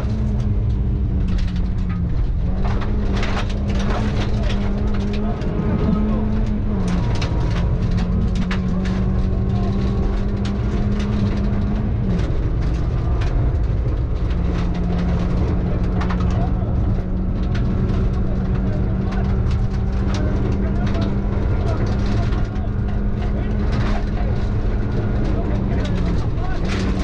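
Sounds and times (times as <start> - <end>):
gravel pinging on car underside: 0.0 - 27.0
rally car engine at high speed: 0.0 - 27.0.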